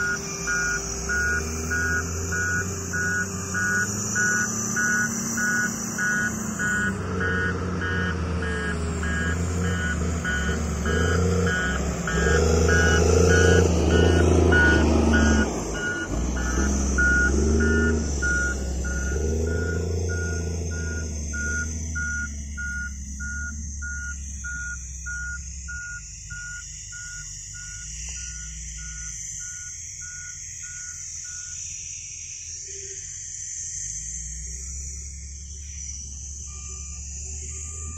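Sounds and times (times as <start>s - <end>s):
vehicle engines revving: 0.0s - 31.4s, 33.8s - 37.9s
electronic warning beeps: 0.0s - 37.9s.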